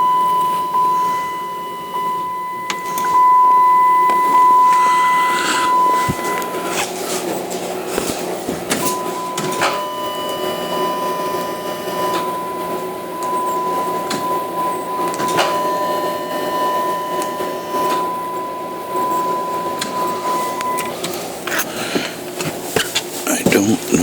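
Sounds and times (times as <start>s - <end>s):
high electronic tone: 0.0s - 7.0s, 8.8s - 21.3s
electrical whine: 0.0s - 22.4s.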